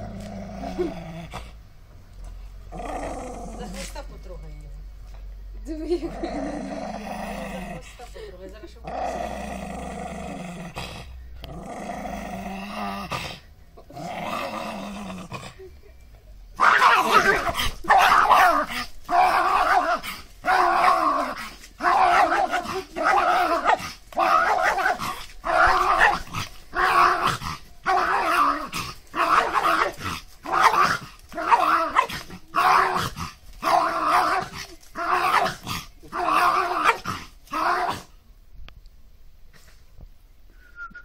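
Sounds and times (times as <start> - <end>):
dog growling and snarling: 0.0 - 1.6, 2.7 - 4.0, 6.0 - 8.1, 8.8 - 15.7, 16.6 - 38.2.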